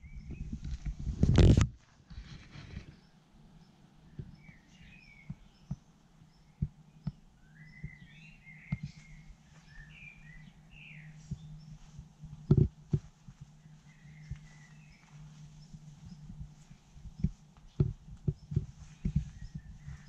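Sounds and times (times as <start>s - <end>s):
small birds chirping: 0.0s - 1.4s, 2.1s - 20.0s
low steady hum: 0.0s - 20.0s.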